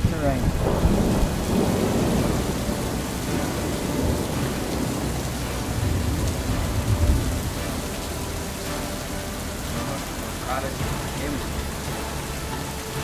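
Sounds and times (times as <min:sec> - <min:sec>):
low thunder rumbles: 0:00.0 - 0:13.0
rain falling hiss: 0:00.0 - 0:13.0.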